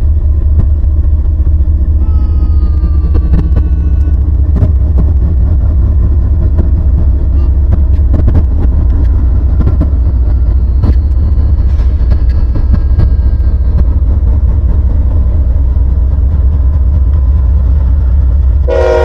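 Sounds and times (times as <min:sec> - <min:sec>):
wheels clicking on rails: 0:00.0 - 0:18.7
freight train rumbling past: 0:00.0 - 0:19.0.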